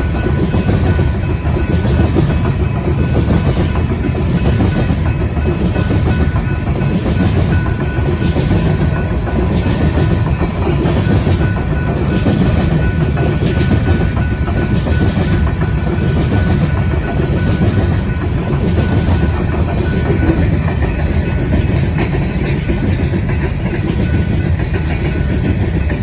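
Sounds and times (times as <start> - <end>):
train cars rumbling past: 0.0 - 26.0
wheels clacking over rails: 0.0 - 26.0.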